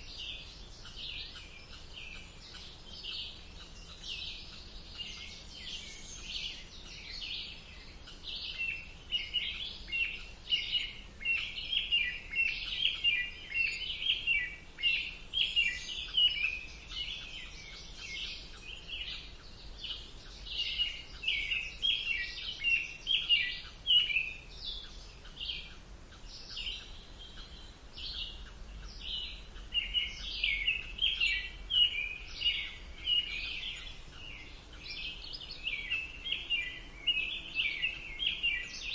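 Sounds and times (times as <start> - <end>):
faint low background noise: 0.0 - 38.9
songbirds singing and chirping: 0.0 - 38.9.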